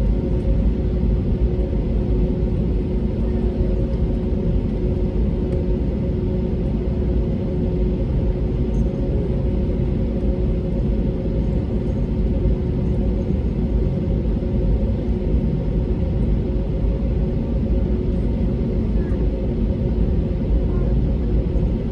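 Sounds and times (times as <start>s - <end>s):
airplane cabin engine rumble: 0.0s - 21.9s.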